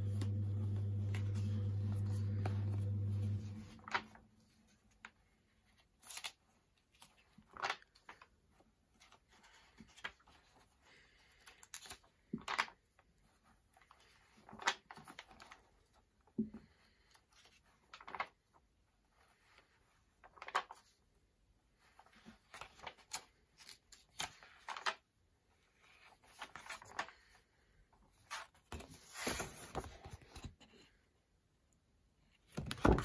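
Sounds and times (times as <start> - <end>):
paper pages turning: 0.0 - 16.1, 16.7 - 21.0, 21.8 - 25.0, 25.6 - 27.4, 28.1 - 30.7.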